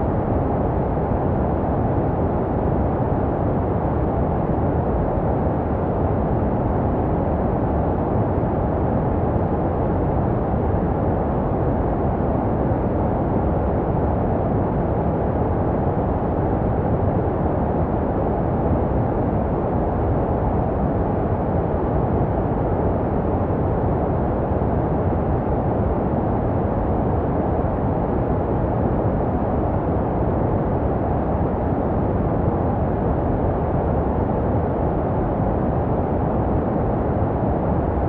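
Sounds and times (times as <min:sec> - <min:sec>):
muffled white noise: 0:00.0 - 0:38.0.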